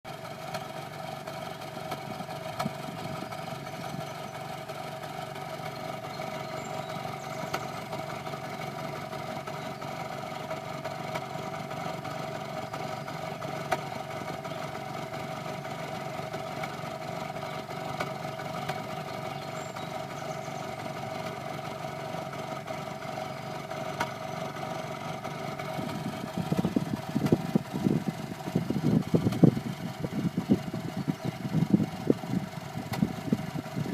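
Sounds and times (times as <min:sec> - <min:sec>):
car exhaust idling: 0:00.1 - 0:33.9.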